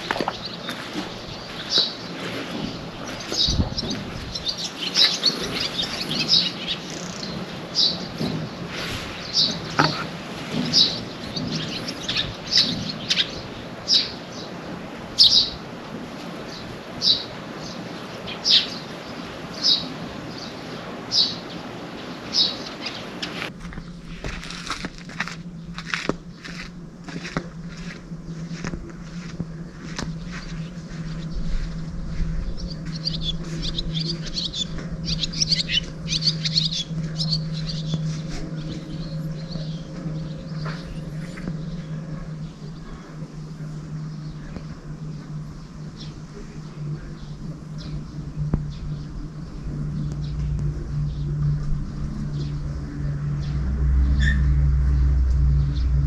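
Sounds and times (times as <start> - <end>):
small birds chirping: 0.0 - 56.0
steady background hum: 0.0 - 56.0.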